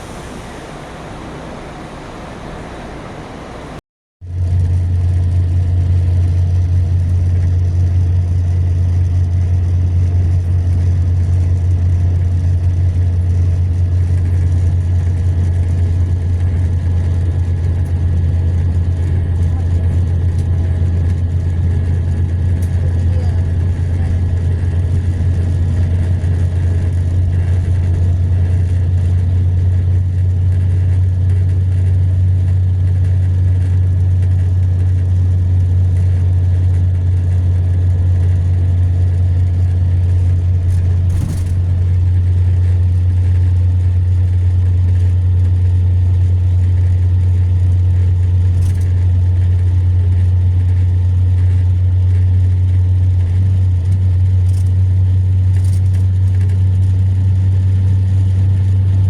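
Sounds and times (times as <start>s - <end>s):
coach engine drone: 0.0s - 59.0s
road noise: 0.0s - 59.0s.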